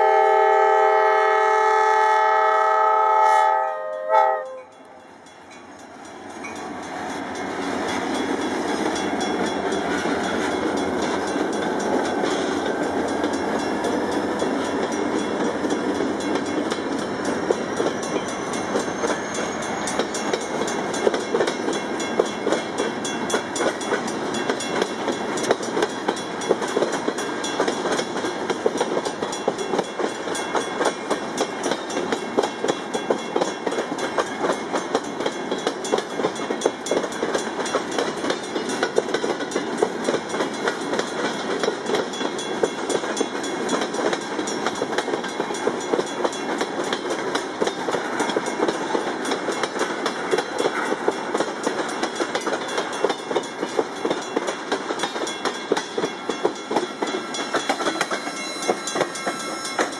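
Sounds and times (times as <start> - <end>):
diesel locomotive engines: 0.0 - 59.9.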